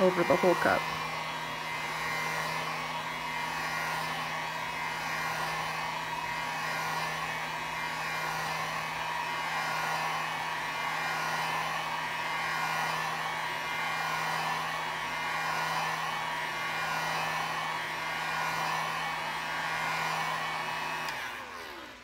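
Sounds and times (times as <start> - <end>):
heat gun running: 0.0 - 22.0.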